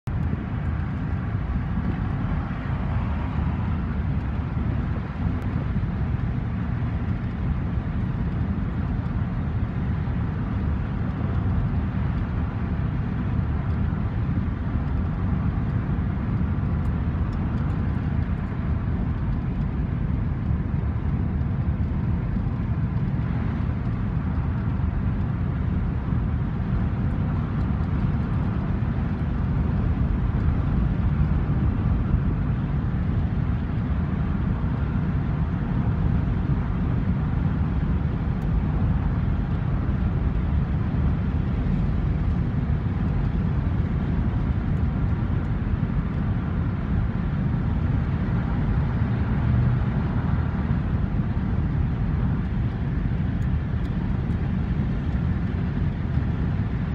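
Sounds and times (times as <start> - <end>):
car road noise rumble: 0.0 - 56.9.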